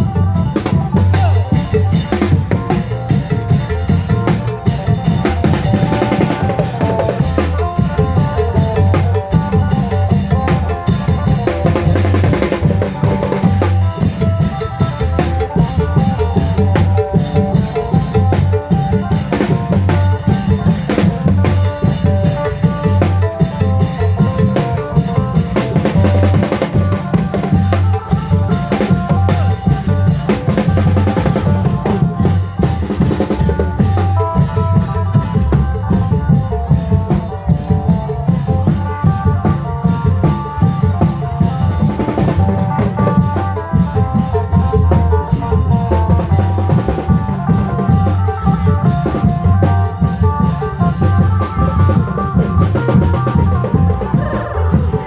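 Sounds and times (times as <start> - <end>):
long drums playing a rhythm: 0.0 - 55.0.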